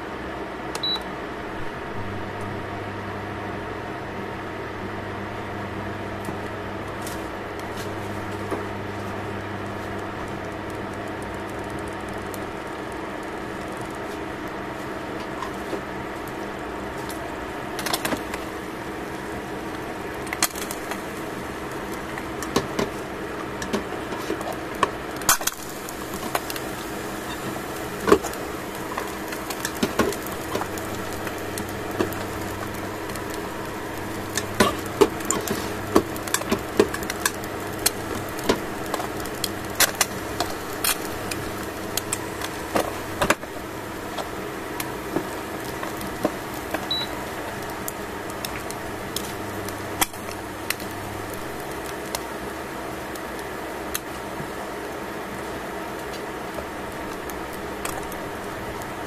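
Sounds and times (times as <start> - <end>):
mechanical hum: 0.0 - 59.0
eggs frying with popping fat: 6.0 - 59.0.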